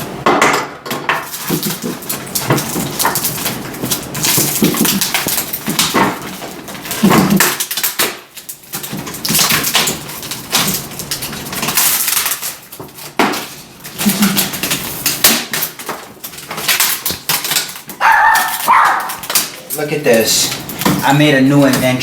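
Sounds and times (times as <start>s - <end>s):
laptop parts rattling and cracking: 0.3s - 22.0s.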